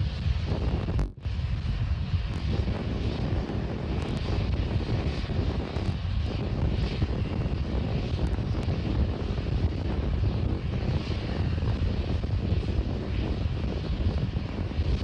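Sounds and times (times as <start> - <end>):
distant rocket engines roaring: 0.0 - 15.0.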